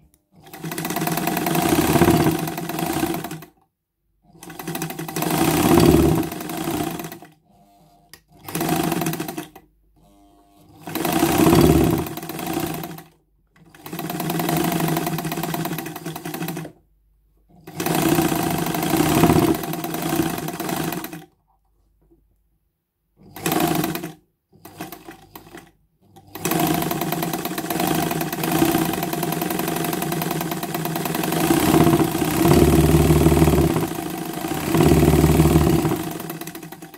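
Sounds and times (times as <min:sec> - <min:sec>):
sewing machine stitching fabric: 0:00.0 - 0:03.6, 0:04.2 - 0:16.8, 0:17.5 - 0:21.4, 0:23.2 - 0:36.9.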